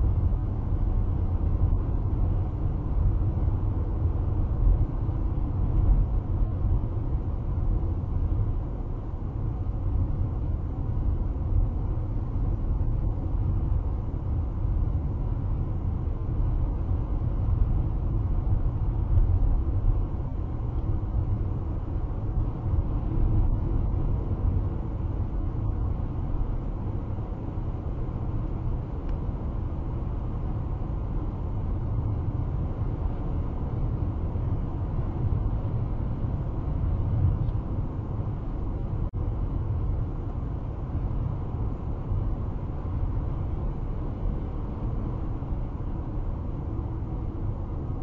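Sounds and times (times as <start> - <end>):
car cabin road and engine rumble: 0.0 - 48.0.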